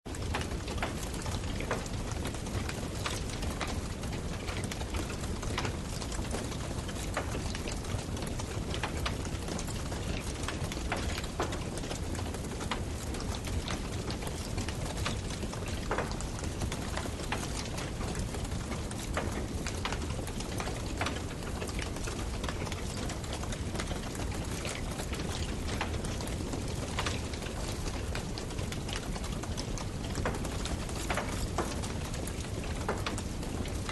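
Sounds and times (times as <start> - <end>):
wood fire crackling: 0.1 - 33.9.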